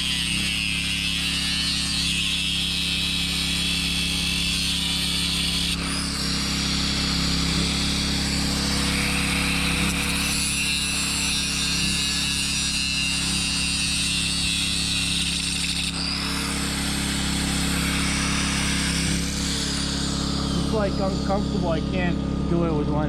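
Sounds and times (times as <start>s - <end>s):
angle grinder grinding steel: 0.0s - 23.0s.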